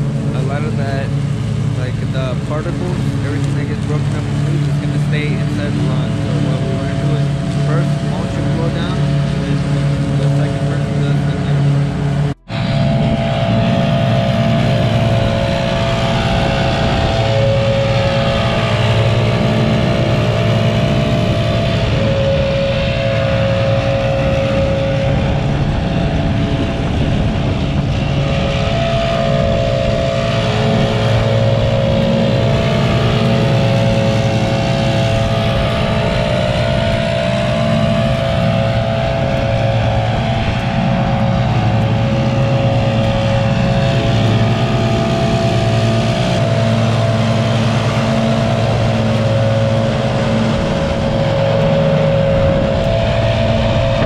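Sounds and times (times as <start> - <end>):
leaf blower whine: 0.0 - 54.0
mower engine drone: 0.0 - 54.0.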